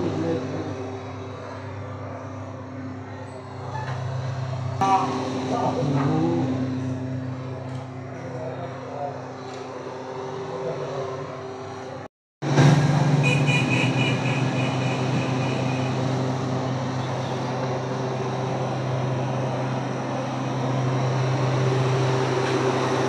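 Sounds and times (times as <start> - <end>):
machinery drone: 0.0 - 23.0.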